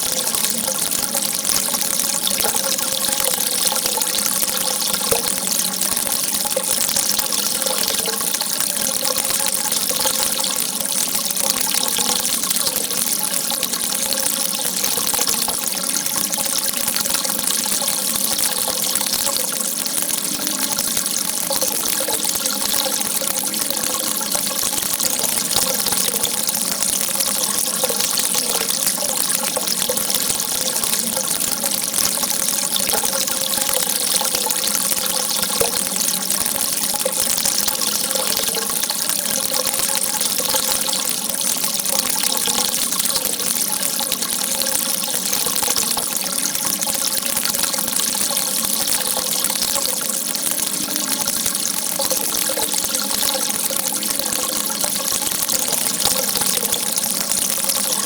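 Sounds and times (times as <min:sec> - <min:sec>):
water jetting: 0:00.0 - 0:58.0.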